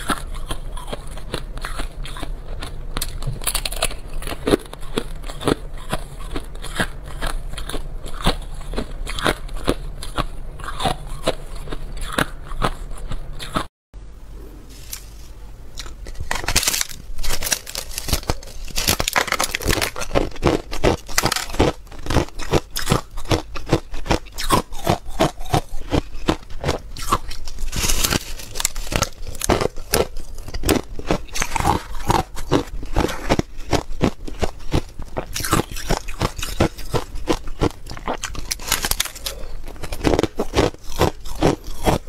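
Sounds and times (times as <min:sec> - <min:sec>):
ice being bitten and chewed: 0:00.0 - 0:13.7, 0:15.8 - 0:42.0.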